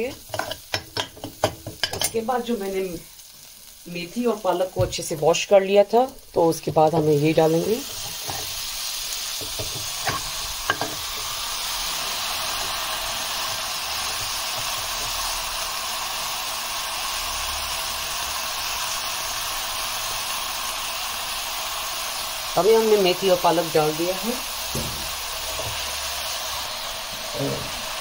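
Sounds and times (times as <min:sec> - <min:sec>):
paste sizzling in a pan: 0:00.0 - 0:28.0.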